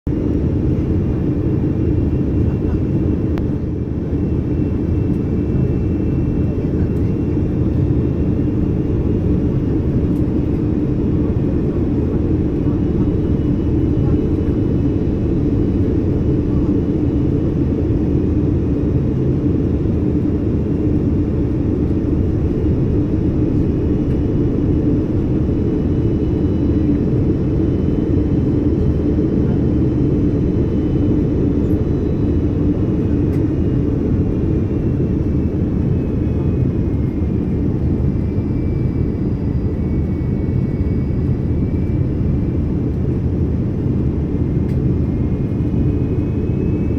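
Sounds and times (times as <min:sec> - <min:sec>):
airliner cabin engine rumble: 0:00.1 - 0:46.9
faint high engine whine: 0:00.1 - 0:46.9.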